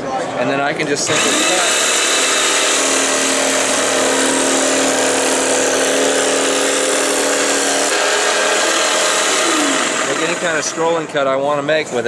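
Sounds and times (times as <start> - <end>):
motor hum: 0.8 - 12.0
scroll saw cutting wood: 0.8 - 12.0.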